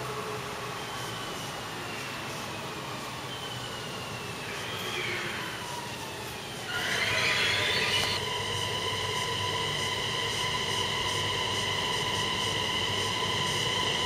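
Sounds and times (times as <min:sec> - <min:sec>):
train brakes squealing: 0:00.0 - 0:14.0
train whine and rumble: 0:00.0 - 0:14.0.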